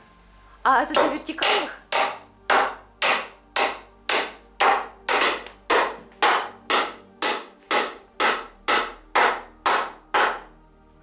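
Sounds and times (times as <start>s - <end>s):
hammer driving nails into wood: 1.4s - 10.5s.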